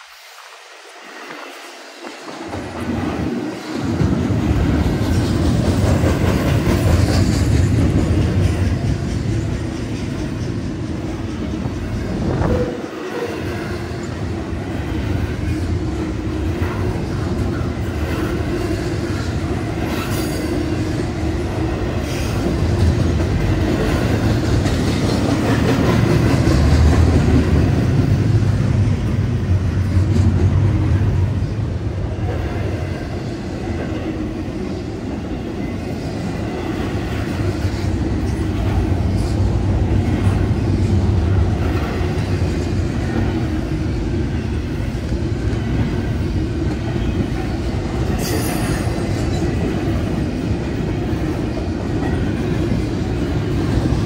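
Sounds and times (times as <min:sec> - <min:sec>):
train rumble: 0:00.0 - 0:54.0
train wheels clacking over rails: 0:00.0 - 0:54.0.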